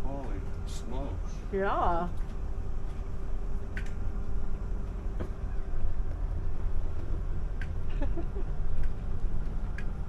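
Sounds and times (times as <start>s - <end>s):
faint hum: 0.0s - 10.0s
vehicle cabin rumble: 0.0s - 10.0s.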